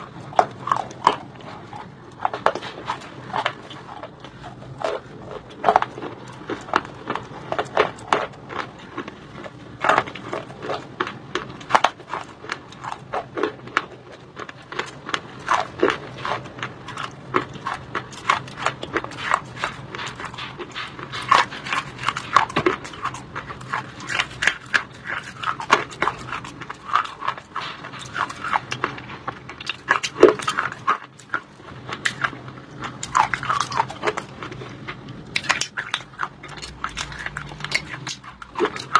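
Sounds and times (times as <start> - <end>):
person crunching and chewing stone: 0.0 - 38.9.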